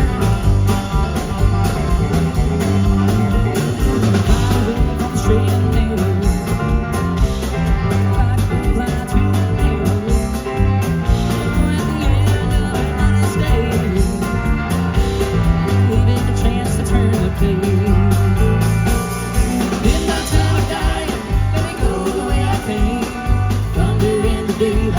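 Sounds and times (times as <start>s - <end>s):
bass: 0.0s - 24.9s
drums with steady beat: 0.0s - 24.9s
electric guitar: 0.0s - 24.9s.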